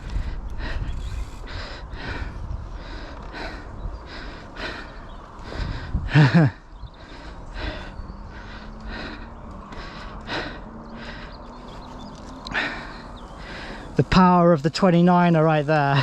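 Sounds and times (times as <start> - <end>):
person panting hard: 0.0 - 11.7, 12.5 - 14.0.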